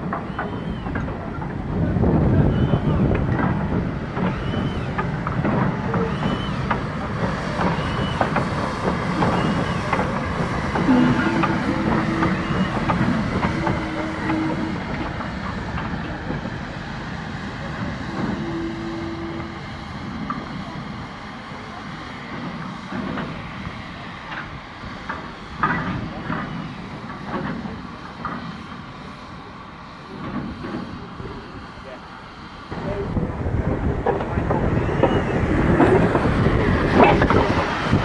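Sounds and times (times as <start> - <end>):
train carriages rattling: 0.0 - 28.9, 32.7 - 38.0
train wheels clicking over rail joints: 0.0 - 31.9, 32.7 - 38.0.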